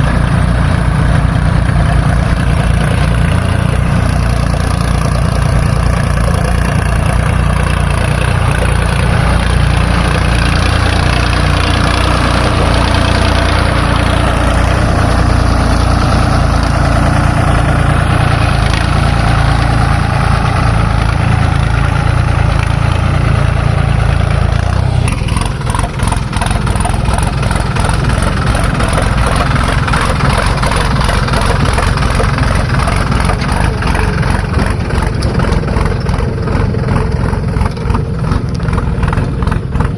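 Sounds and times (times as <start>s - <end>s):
diesel machinery engine running: 0.0s - 39.9s.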